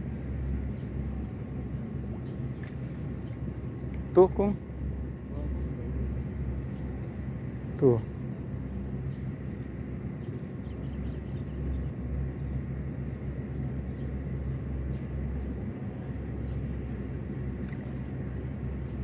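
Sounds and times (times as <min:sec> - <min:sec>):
distant low engine rumble: 0:00.0 - 0:19.0.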